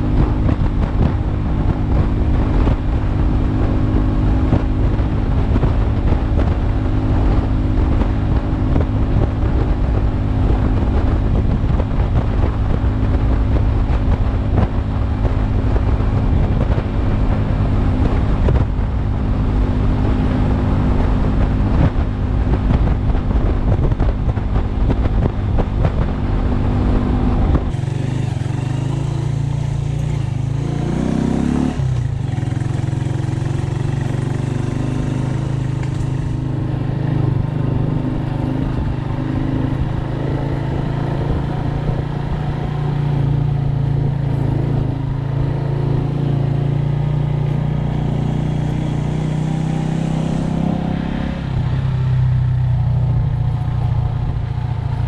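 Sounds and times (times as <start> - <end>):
motorcycle engine running slowly: 0.0 - 50.7, 51.4 - 55.0
motorcycle riding: 0.0 - 55.0
wind buffeting the microphone: 0.0 - 55.0.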